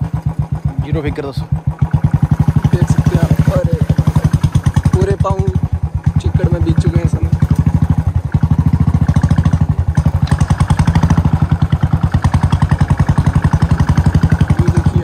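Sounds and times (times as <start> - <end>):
motorcycle engine thumping: 0.0 - 15.0.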